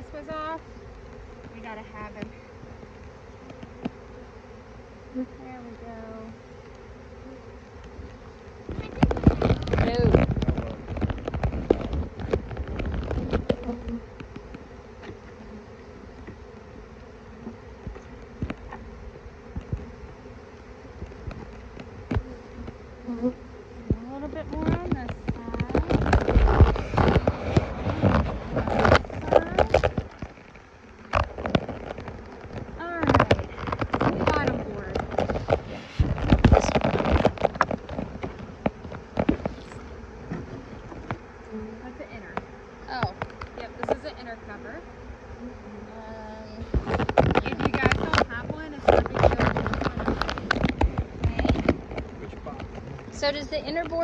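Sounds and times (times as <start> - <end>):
honeybees buzzing: 0.0 - 54.0
hive frames knocking and clicking: 0.1 - 4.8, 5.5 - 54.0.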